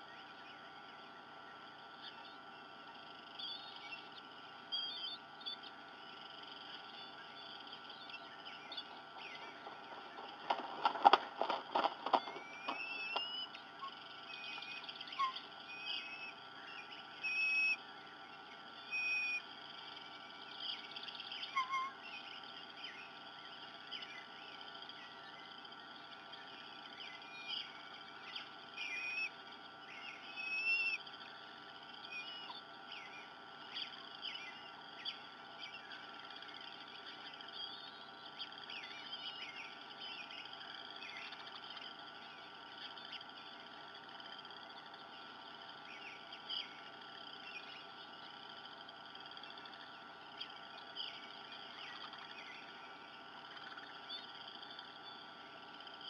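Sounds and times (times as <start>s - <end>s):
birds chirping and whistling: 0.0s - 43.9s, 44.8s - 48.3s, 49.4s - 55.4s.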